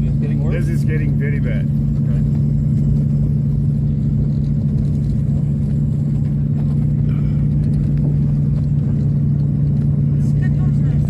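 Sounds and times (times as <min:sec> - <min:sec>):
aircraft engine drone: 0:00.0 - 0:11.0.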